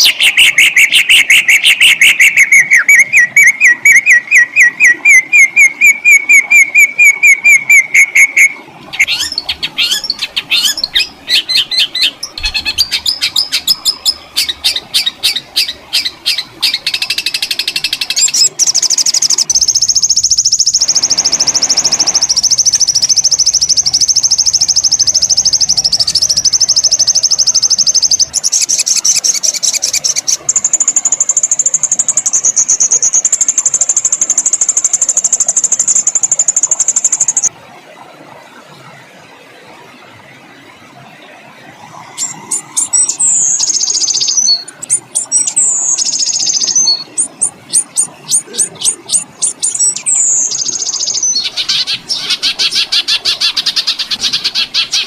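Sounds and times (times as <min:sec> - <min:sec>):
songbird trills: 0:00.0 - 0:37.5, 0:42.2 - 0:55.0.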